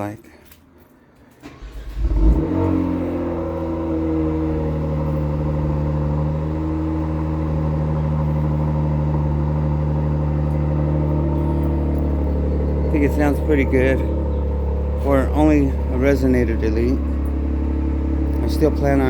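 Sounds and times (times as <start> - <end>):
car engine idling: 1.4 - 19.0.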